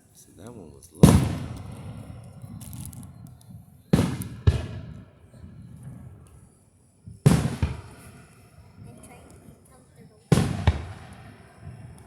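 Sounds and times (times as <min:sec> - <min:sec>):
fireworks crackle: 0:00.0 - 0:12.0
fireworks bangs with echo: 0:01.0 - 0:12.0.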